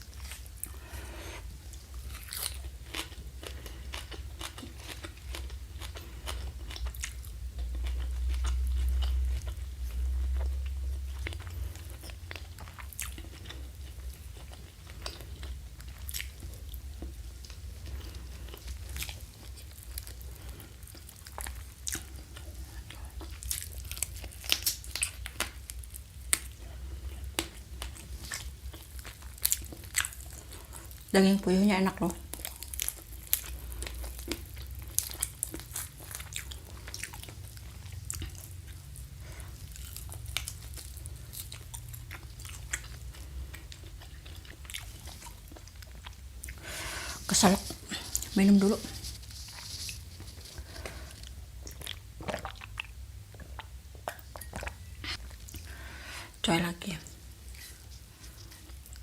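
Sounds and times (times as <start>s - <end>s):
person chewing crunchy food: 0.0s - 31.2s, 32.1s - 56.4s, 57.1s - 59.0s.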